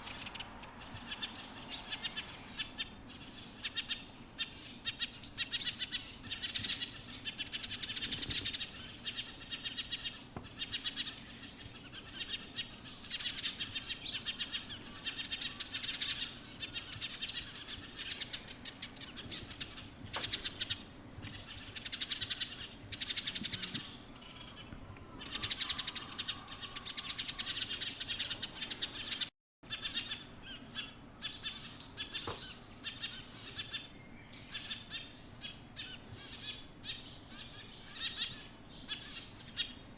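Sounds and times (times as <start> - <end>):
songbird twittering: 0.0 - 39.8.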